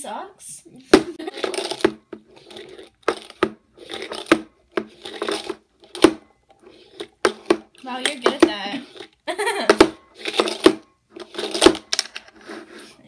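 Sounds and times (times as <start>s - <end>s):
jelly beans rattling in plastic box: 1.2s - 12.4s.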